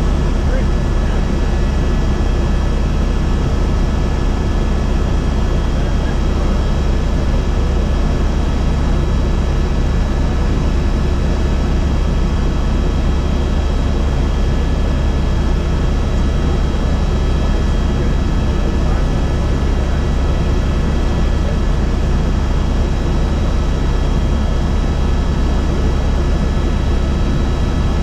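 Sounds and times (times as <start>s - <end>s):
helicopter engine and rotor drone: 0.0s - 28.0s.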